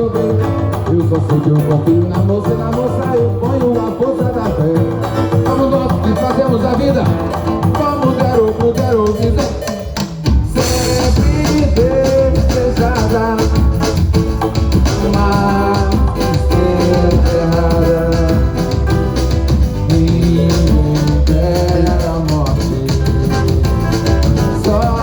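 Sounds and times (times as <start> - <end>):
person singing: 0.0 - 9.8, 10.4 - 25.0
samba music with drums and guitar: 0.0 - 25.0.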